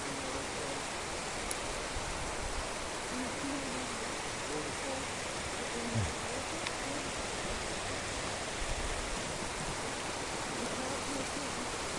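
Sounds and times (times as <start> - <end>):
river water rushing: 0.0 - 11.9.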